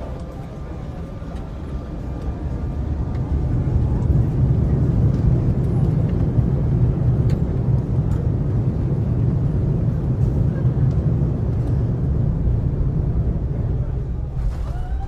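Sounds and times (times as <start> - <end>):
jet engines rumbling over loudspeakers: 0.0 - 15.0.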